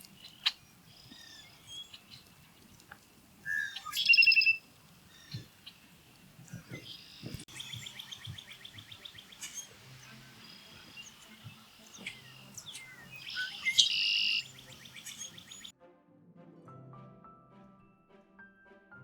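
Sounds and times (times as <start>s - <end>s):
blackbird calls: 0.0s - 15.7s.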